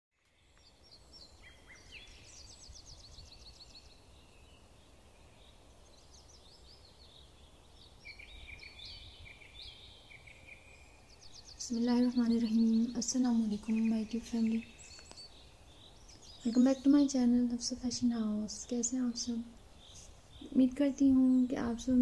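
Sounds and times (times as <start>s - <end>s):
birds chirping and trilling: 0.2s - 22.0s.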